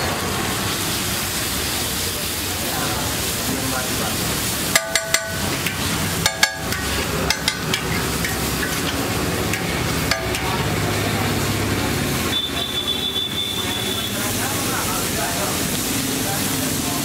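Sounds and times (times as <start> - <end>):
food sizzling on griddle: 0.0 - 17.0.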